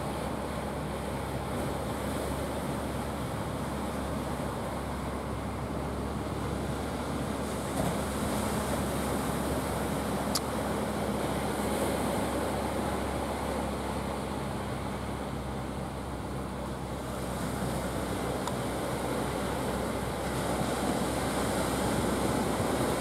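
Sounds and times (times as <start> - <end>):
boat engine running: 0.0 - 23.0
water wash: 0.0 - 23.0
wind: 0.0 - 23.0.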